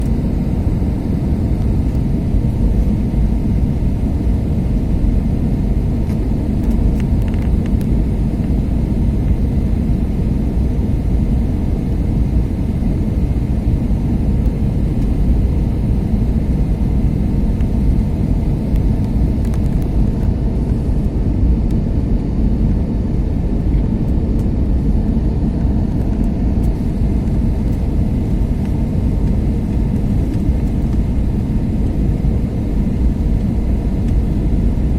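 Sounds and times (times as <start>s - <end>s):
airflow over fuselage: 0.0s - 34.9s
jet engine rumble: 0.0s - 34.9s.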